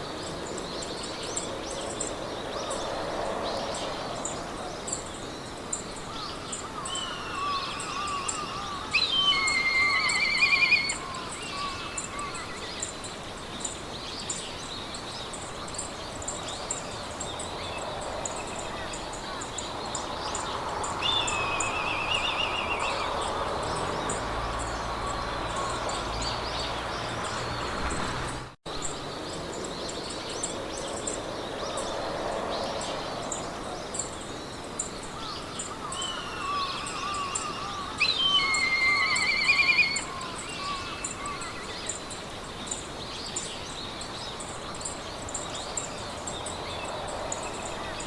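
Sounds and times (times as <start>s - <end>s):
birds singing warbles and trills: 0.0s - 48.0s
wind through grass: 0.0s - 48.0s.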